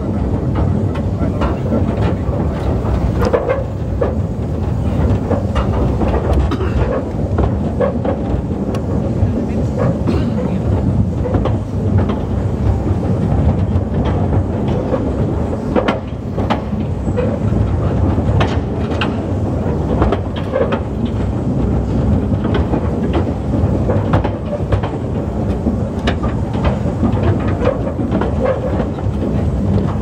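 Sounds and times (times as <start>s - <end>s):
wheels clicking over rail joints: 0.0s - 30.0s
wheels rumbling on rail: 0.0s - 30.0s.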